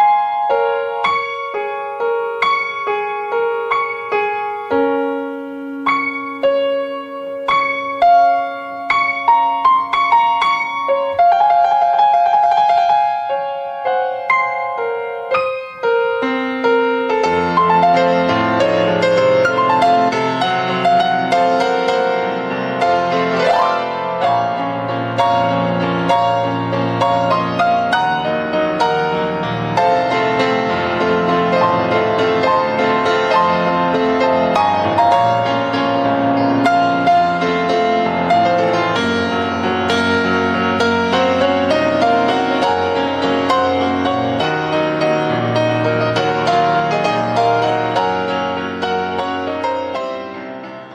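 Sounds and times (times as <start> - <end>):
solo piano melody: 0.0 - 50.9.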